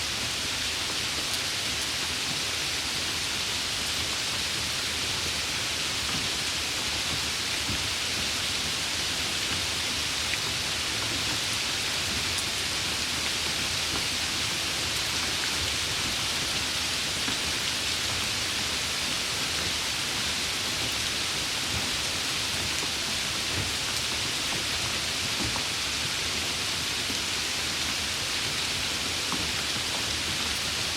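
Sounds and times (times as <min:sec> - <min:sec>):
rain falling: 0:00.0 - 0:30.9.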